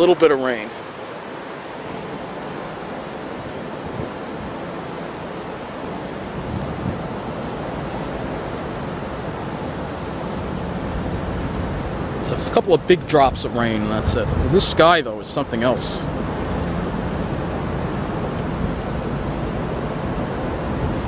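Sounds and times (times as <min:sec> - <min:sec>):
wind blowing on microphone: 0:01.8 - 0:21.0.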